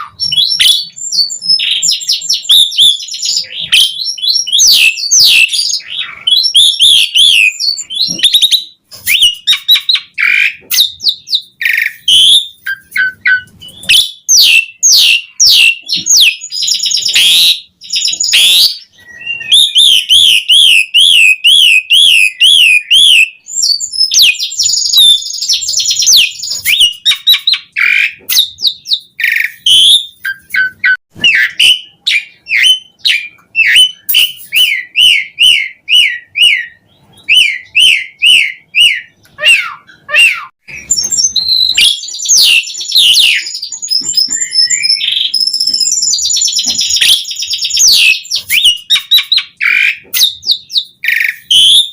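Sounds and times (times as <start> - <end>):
bird singing: 0.0 - 51.9
bird warbling trill: 0.0 - 51.9.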